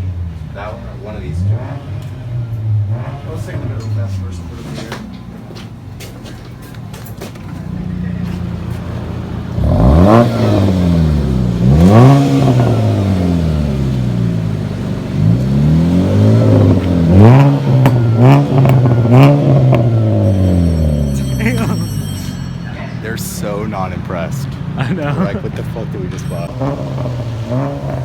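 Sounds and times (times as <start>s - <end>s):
car engine revving: 0.0s - 6.2s, 7.3s - 28.0s.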